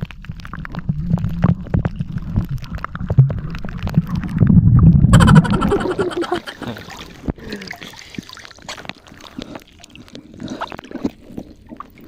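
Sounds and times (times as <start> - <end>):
water sloshing and rumbling: 0.0 - 12.0.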